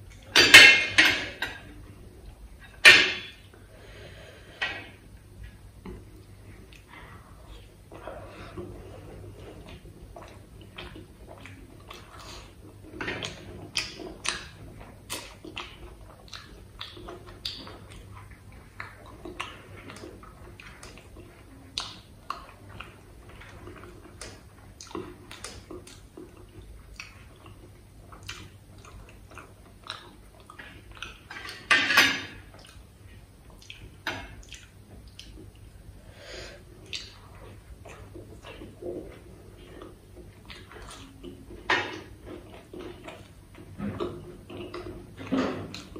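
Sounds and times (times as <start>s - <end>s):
chewing and wet mouth sounds: 4.7s - 45.9s.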